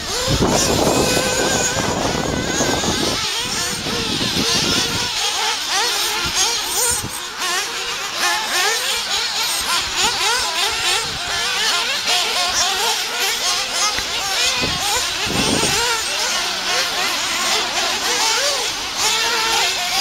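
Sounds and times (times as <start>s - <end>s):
radio-controlled car engines buzzing: 0.0s - 20.0s.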